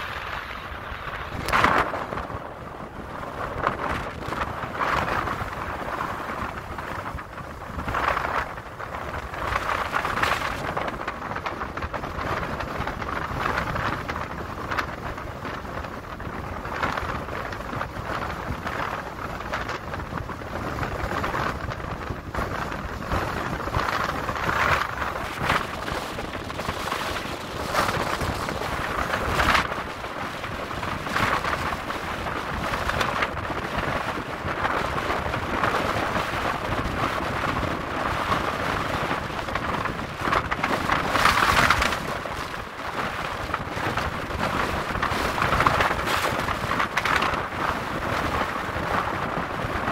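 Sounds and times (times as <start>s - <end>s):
choppy sea water: 0.0s - 49.9s
wind buffeting microphone: 0.0s - 49.9s.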